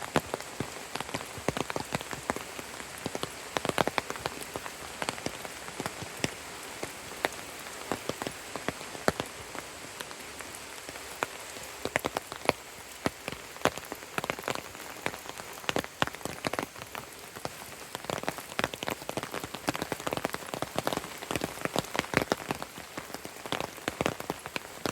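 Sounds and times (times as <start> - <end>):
rain hissing: 0.0 - 24.9
raindrops striking close by: 0.0 - 24.9.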